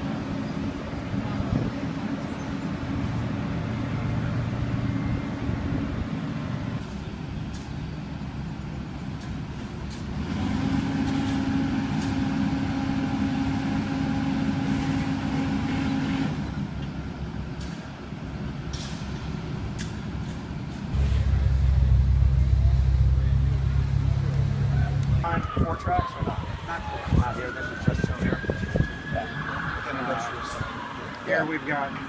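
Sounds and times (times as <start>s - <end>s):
excavator diesel engine running: 0.0s - 25.8s.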